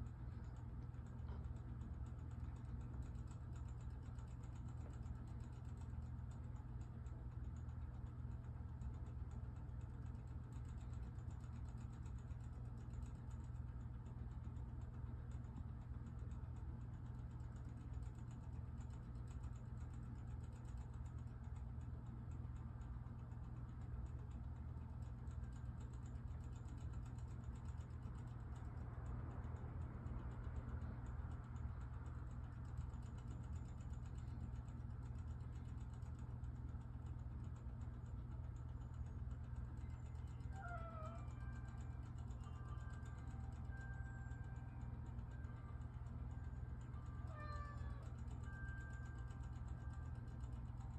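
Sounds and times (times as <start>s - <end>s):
steady low hum: 0.0s - 50.9s
wall clock ticking rapidly: 0.0s - 50.9s.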